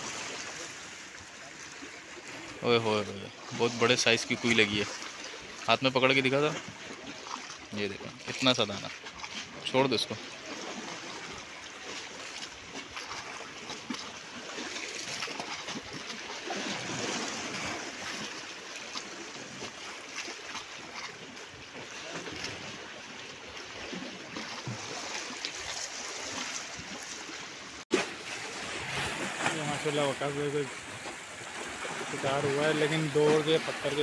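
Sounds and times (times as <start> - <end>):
sea water lapping on rocks: 0.0 - 34.0.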